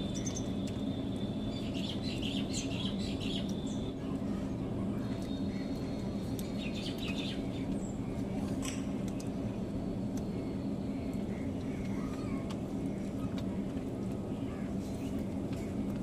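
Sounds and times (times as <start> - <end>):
birds chirping: 0.0 - 4.2, 4.8 - 16.0
steady low hum: 0.0 - 16.0.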